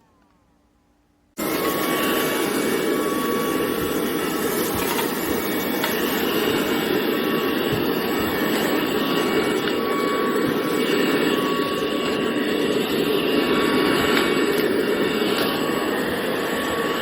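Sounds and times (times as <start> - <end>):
stick vacuum running: 1.4 - 17.0.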